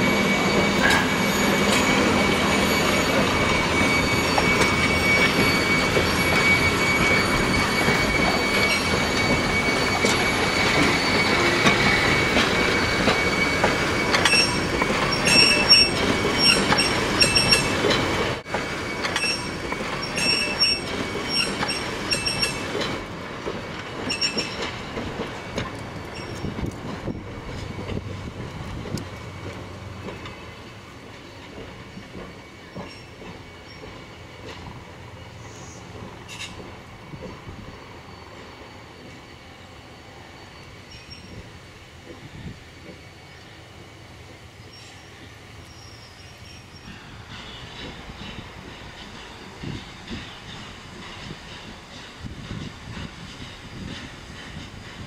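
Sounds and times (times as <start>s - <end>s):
train running gear clatter: 0.0s - 39.3s, 40.5s - 55.0s
train wheels squealing on rails: 0.0s - 55.0s.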